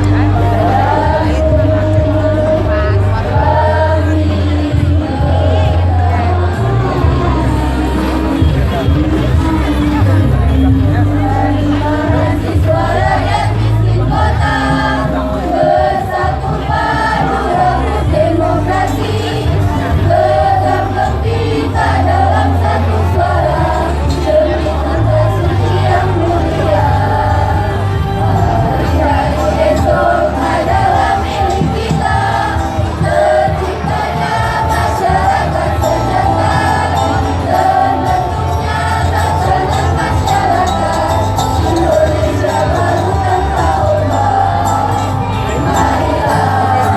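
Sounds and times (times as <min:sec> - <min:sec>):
choir singing in unison: 0:00.0 - 0:46.9
low bass accompaniment: 0:00.0 - 0:46.9.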